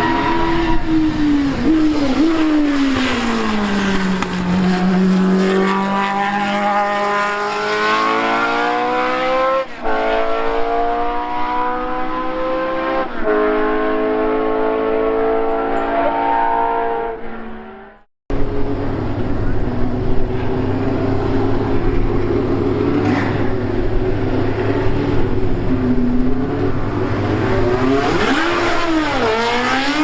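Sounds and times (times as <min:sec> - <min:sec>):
racing car engine revving: 0:00.0 - 0:30.0.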